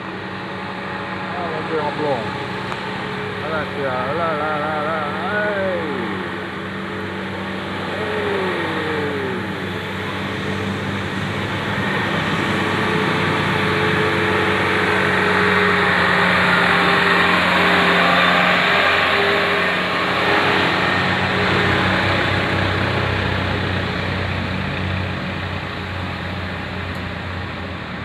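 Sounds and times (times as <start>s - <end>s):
bus engine running: 0.0s - 28.0s
traffic passing: 0.0s - 28.0s.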